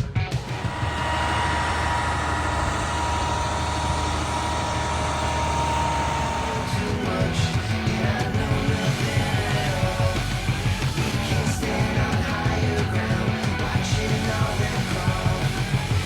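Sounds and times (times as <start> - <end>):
machine humming with thin whine: 0.4 - 16.0.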